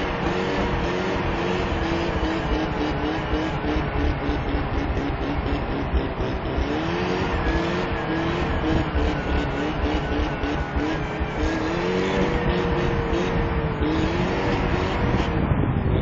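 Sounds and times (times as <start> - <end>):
pickup truck engine revving: 0.0 - 15.5
tyres spinning in snow: 0.0 - 16.0.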